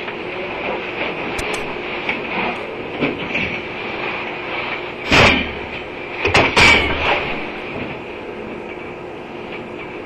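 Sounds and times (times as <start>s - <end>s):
furnace mechanical hum: 0.0s - 10.0s.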